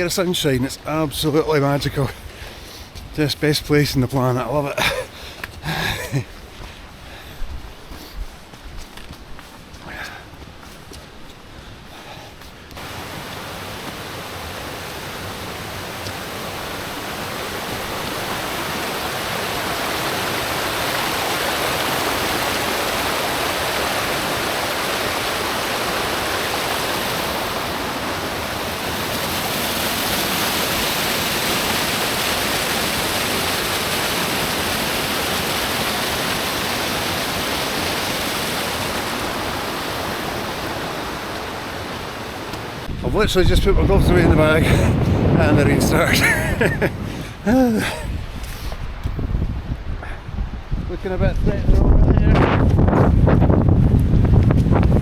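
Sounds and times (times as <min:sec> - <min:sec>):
rushing water of a stream: 0:00.0 - 0:51.3.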